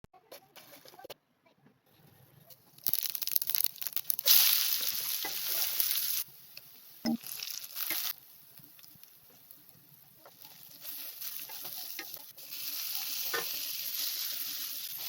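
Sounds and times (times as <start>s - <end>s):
crackling in cooking: 1.9s - 15.0s.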